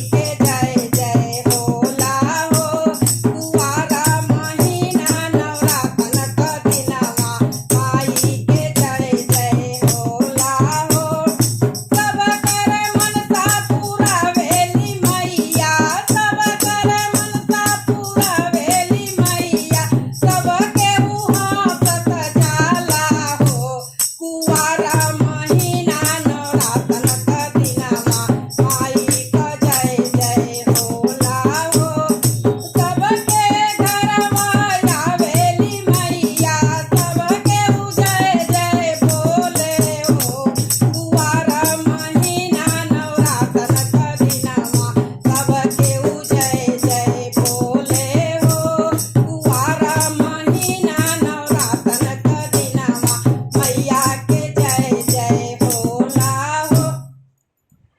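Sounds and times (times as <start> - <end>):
rattling percussion beat: 0.0 - 57.0
woman singing folk song: 0.0 - 57.1.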